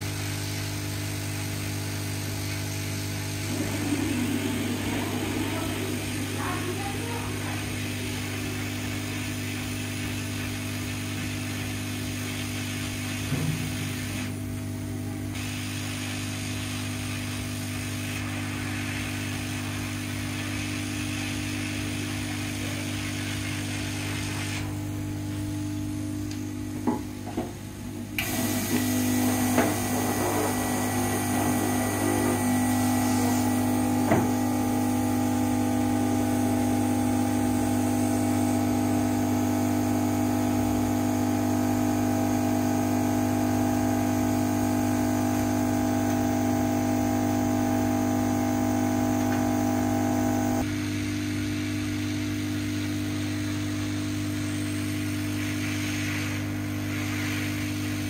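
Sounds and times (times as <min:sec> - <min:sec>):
air pump humming: 0:00.0 - 0:58.0.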